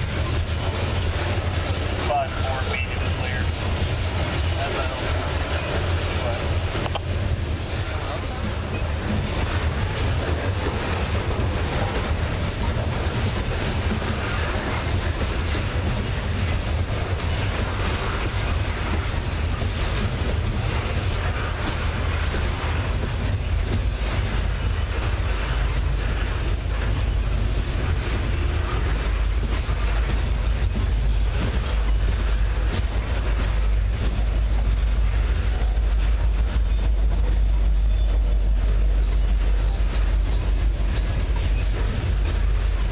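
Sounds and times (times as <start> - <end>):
freight train rolling past: 0.0 - 42.9.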